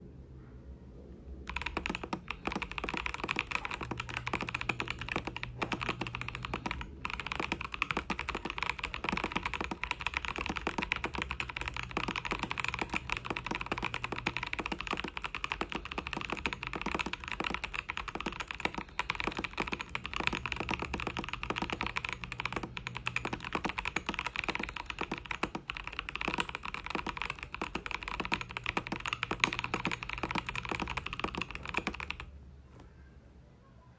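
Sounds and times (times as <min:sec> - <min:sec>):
mechanical keyboard typing: 0:01.5 - 0:32.4.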